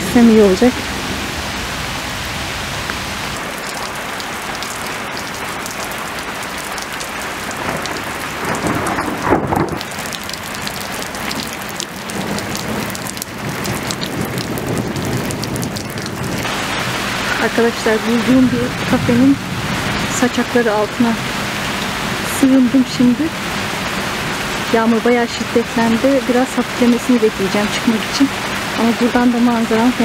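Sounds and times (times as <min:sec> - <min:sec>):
heavy rain on paving and water: 0:00.0 - 0:30.0.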